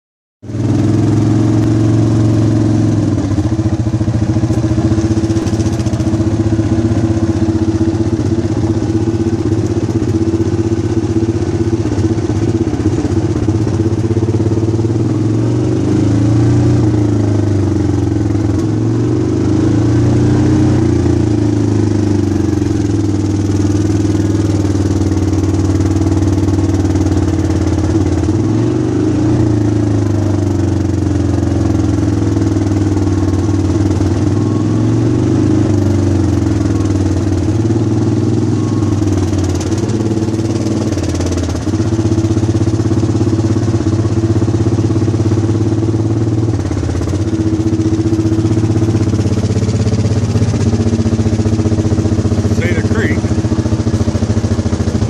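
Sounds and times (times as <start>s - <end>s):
atv engine running: 0.4s - 55.0s.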